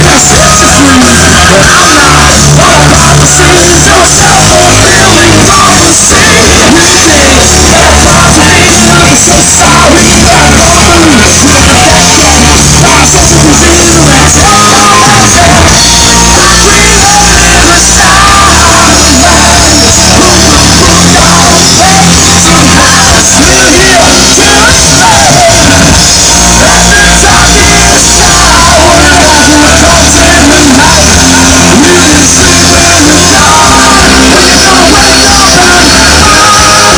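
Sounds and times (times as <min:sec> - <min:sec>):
electric guitar: 0:00.0 - 0:36.9
live rock band: 0:00.0 - 0:36.9
vocals: 0:00.0 - 0:36.9.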